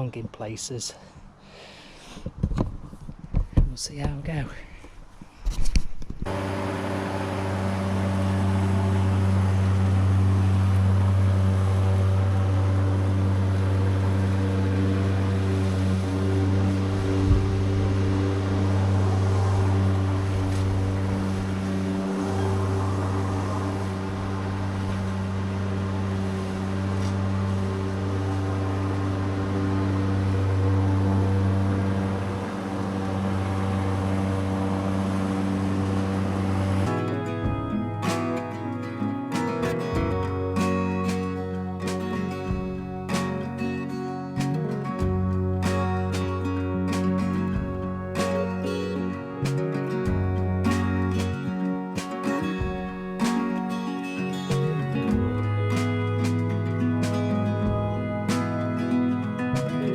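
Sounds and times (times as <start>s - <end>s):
electric lawnmower cutting grass: 6.3s - 59.9s.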